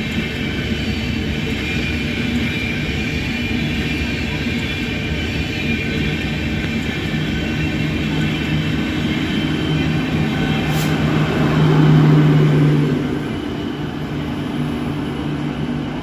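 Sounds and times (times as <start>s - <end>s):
train coaches rumbling past: 0.0s - 16.0s.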